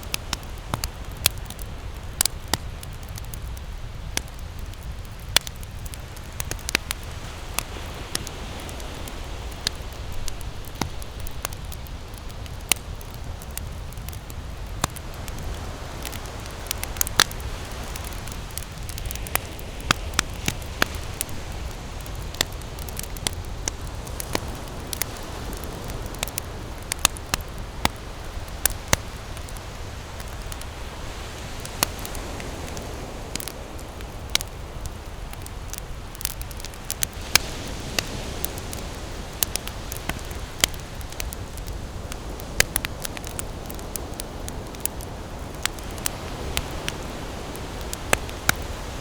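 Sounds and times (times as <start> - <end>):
campfire crackling and popping: 0.0 - 49.0.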